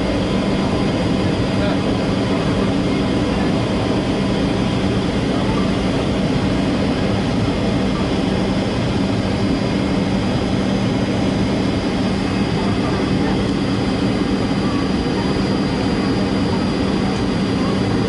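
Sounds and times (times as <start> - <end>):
constant low hum: 0.0 - 18.0
jet engines droning: 0.0 - 18.0.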